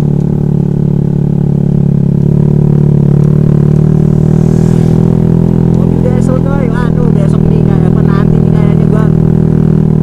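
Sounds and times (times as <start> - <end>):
scooter engine humming: 0.0 - 10.0.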